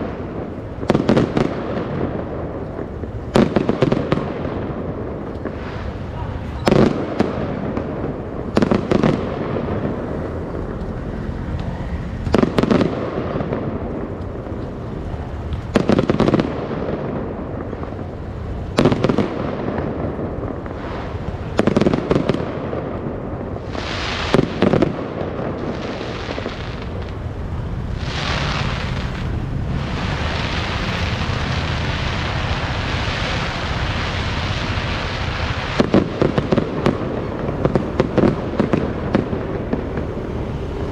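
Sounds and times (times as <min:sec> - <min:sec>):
fireworks bangs: 0:00.0 - 0:40.9
fireworks hissing crackle: 0:00.0 - 0:40.9.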